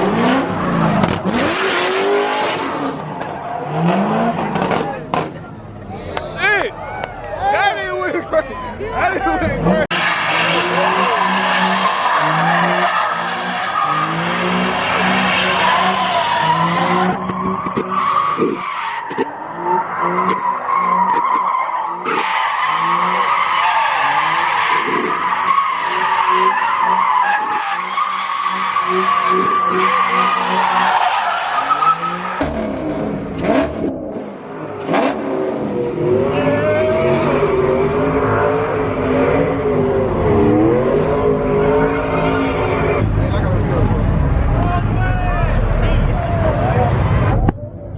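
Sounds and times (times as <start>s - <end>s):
car engine revving: 0.0s - 6.3s, 9.1s - 47.9s
car tires squealing: 0.0s - 43.0s.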